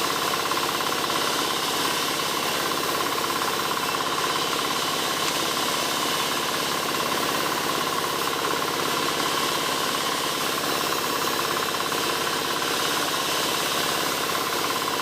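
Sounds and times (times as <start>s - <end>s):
engine-driven wood saw running: 0.0s - 15.0s.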